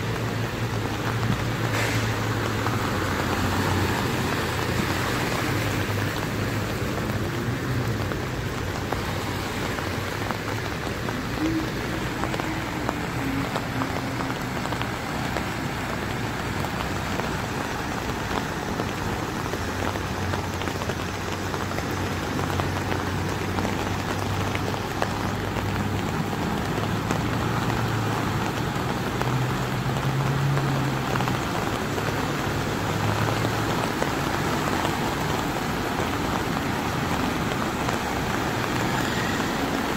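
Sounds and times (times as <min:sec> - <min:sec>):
rain: 0:00.0 - 0:39.9
splashing floodwater: 0:00.0 - 0:39.9
vehicle engines humming: 0:00.0 - 0:39.9.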